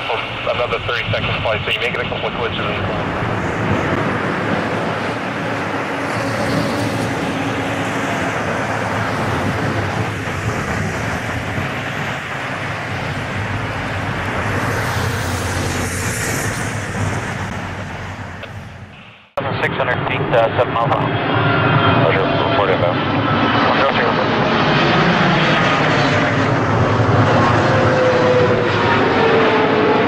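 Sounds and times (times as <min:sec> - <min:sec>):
hissing roar of rolling aircraft: 0:00.0 - 0:30.0
jet engines: 0:00.0 - 0:30.0.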